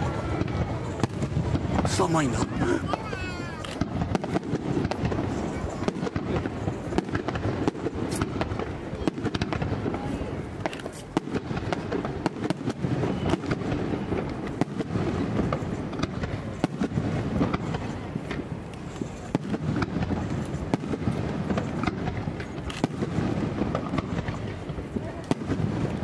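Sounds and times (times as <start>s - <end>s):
firework shells bursting: 0.4s - 26.0s.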